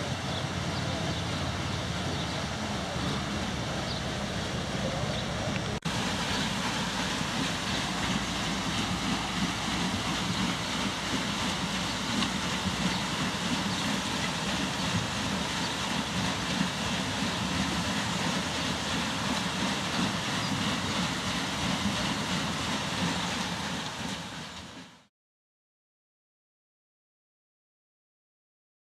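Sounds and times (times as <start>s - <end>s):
water rushing over waterwheel: 0.0s - 25.1s.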